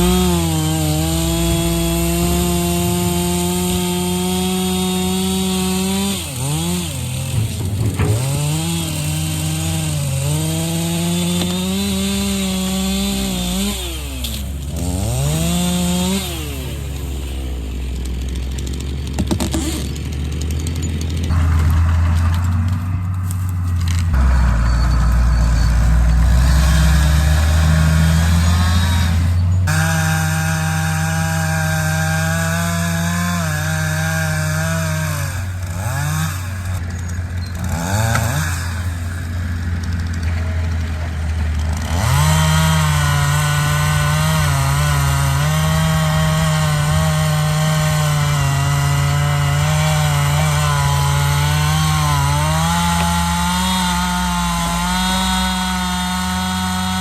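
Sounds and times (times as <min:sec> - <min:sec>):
heavy machinery engine rumble: 0:00.0 - 0:56.9
chainsaw cutting wood: 0:00.0 - 0:57.0.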